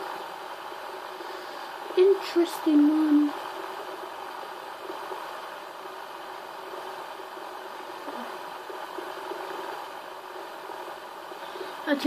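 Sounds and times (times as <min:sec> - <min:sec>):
fidget spinners whirring: 0:00.0 - 0:12.0.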